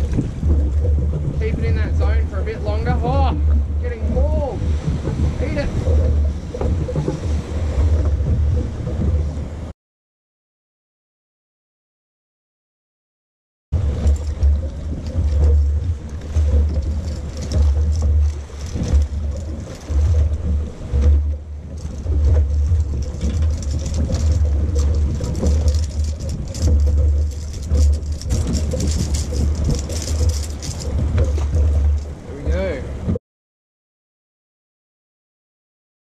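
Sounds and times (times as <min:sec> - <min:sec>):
water splashing around boat: 0:00.0 - 0:09.7, 0:13.7 - 0:33.2
wind buffeting microphone: 0:00.0 - 0:09.7, 0:13.7 - 0:33.2.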